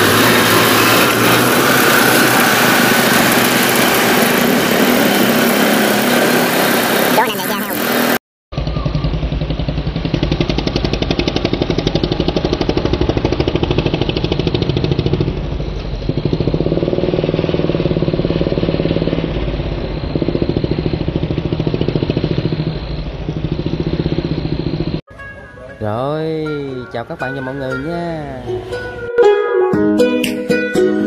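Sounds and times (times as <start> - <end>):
engine chugging: 0.0 - 26.2.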